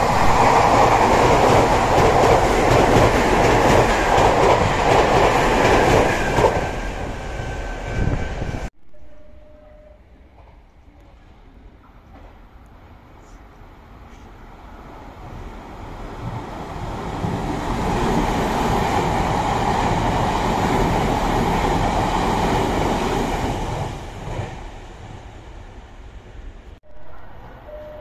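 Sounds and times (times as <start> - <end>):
electric train passing rumble: 0.0 - 28.0.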